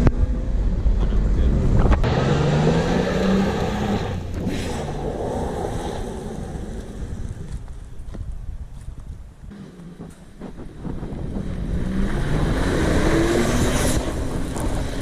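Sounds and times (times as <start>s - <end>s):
car engine accelerating: 0.0s - 7.7s, 9.5s - 15.0s.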